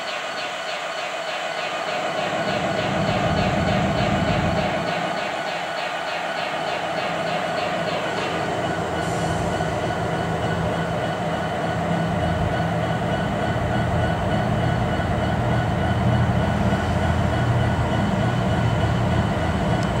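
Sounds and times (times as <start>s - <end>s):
diesel locomotive engines running: 0.0s - 20.0s
rail cars rumbling: 0.0s - 20.0s.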